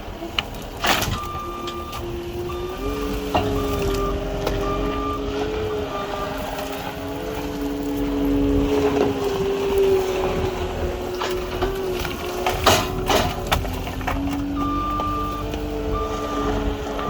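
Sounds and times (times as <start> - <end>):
skid steer engine and hydraulics: 0.0 - 17.0.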